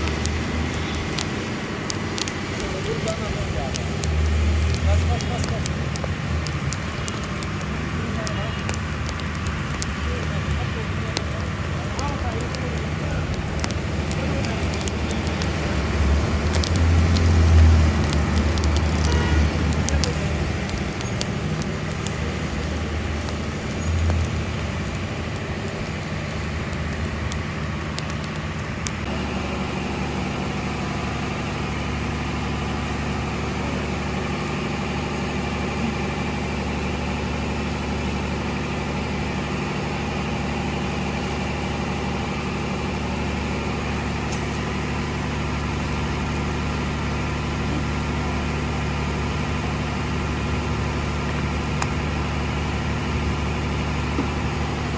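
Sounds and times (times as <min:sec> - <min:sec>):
engine-like hum: 0:00.0 - 0:54.9
wood fire crackling and popping: 0:00.0 - 0:54.9.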